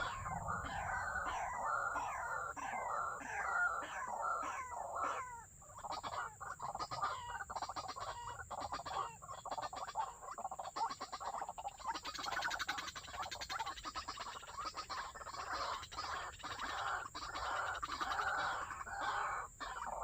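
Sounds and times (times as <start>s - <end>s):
waterhen croaking calls: 0.0s - 20.0s.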